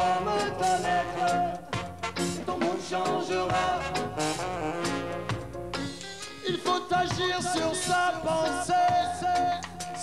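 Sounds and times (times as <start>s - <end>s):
live band playing: 0.0s - 10.0s.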